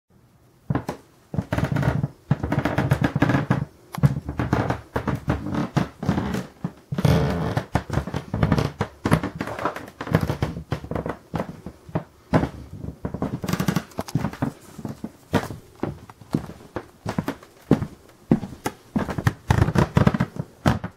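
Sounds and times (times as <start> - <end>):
wooden floorboards creaking: 0.7 - 20.9.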